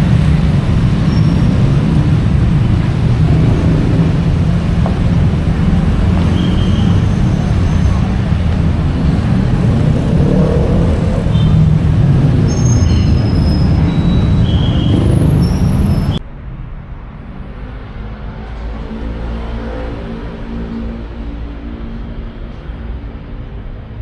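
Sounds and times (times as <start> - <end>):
traffic engines rumbling: 0.0 - 24.0.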